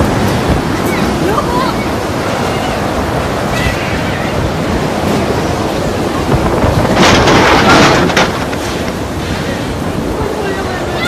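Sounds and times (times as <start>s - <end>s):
storm wind on microphone: 0.0s - 11.0s.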